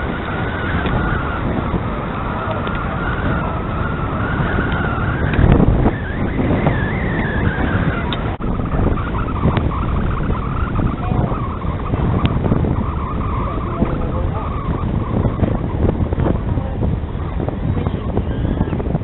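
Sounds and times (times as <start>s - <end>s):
high wavering whistle: 0.0s - 15.8s
wind buffeting microphone: 0.0s - 19.0s.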